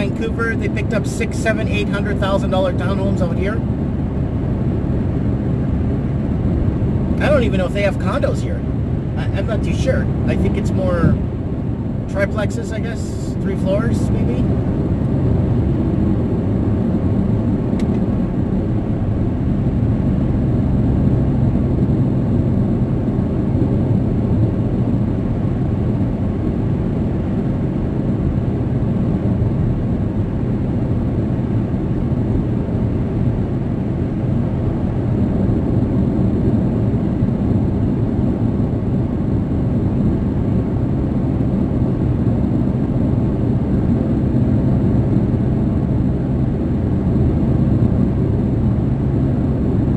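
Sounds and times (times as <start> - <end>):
car cabin rumble at speed: 0.0 - 49.9.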